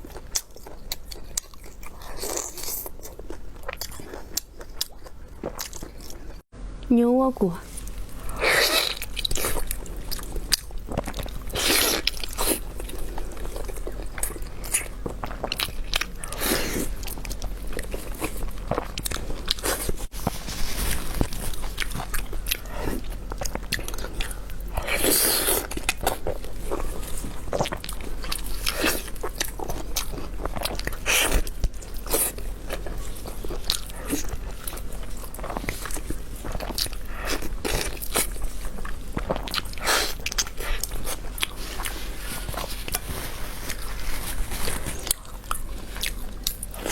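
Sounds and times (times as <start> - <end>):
person chewing crunchy food: 0.0 - 6.5, 7.7 - 46.9.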